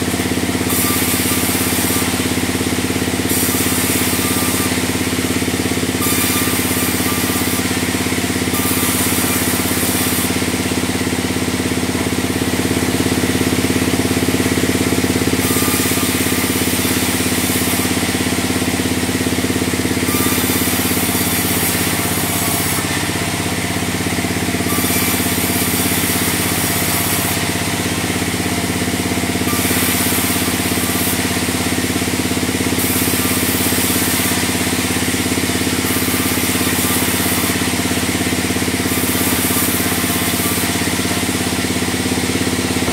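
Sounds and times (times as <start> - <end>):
band saw machine hum: 0.0 - 42.9
saw blade hissing through timber: 0.0 - 42.9.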